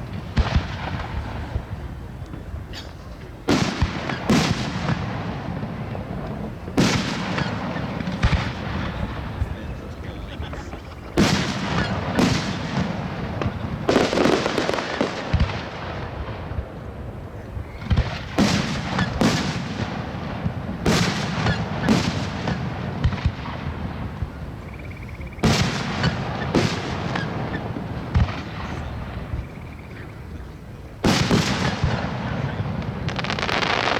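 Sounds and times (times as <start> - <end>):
fireworks bursting with sharp bangs: 0.0 - 33.9.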